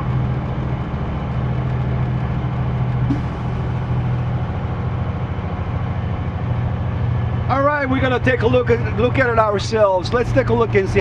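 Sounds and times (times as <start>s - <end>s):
diesel truck engine droning: 0.0s - 11.0s.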